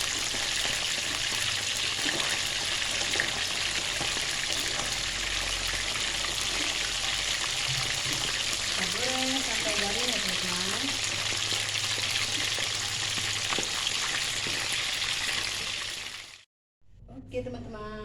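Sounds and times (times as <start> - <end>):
fish sizzling in hot oil: 0.0 - 16.5.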